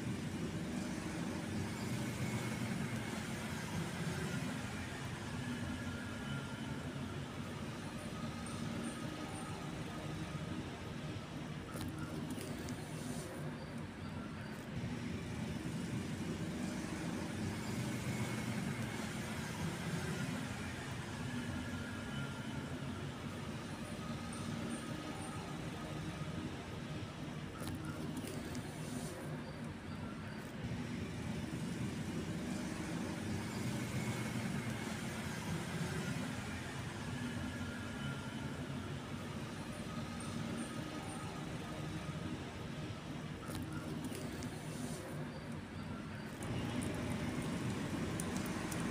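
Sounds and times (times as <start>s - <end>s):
low engine-like rumble: 0.0s - 48.9s.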